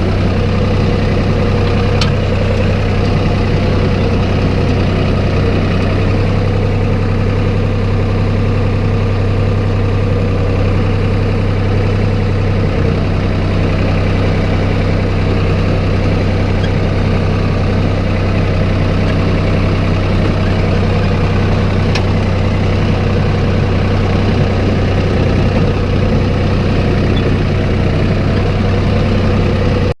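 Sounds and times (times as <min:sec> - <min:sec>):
snowplow engine humming: 0:00.0 - 0:30.0.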